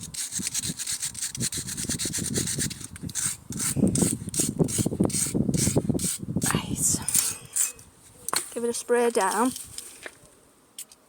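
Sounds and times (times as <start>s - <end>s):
stiff brush scrubbing metal parts: 0.0s - 6.2s, 6.9s - 10.1s.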